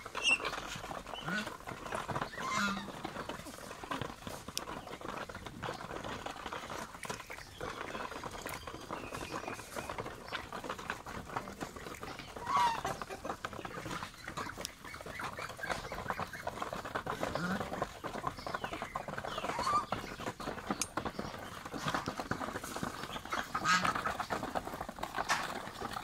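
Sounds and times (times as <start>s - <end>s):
bills clattering in feed: 0.0s - 26.0s.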